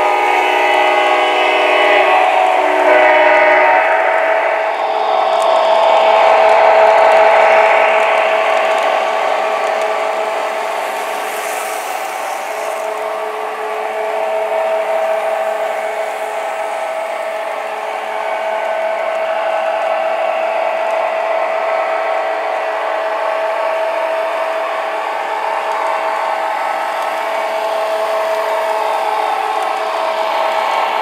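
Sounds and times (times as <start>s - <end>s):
model train motors whirring: 0.0s - 31.0s
wheels rumbling on rails: 0.0s - 31.0s.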